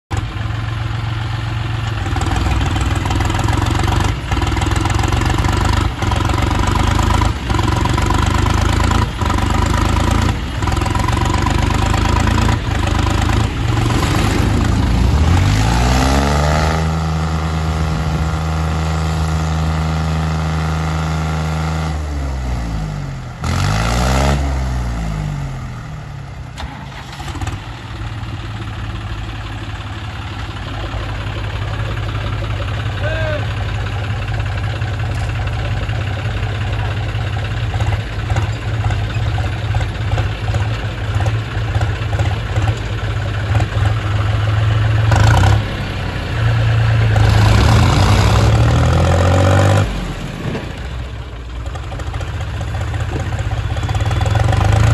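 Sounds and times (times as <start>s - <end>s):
tractor diesel engines under load: 0.1s - 54.9s.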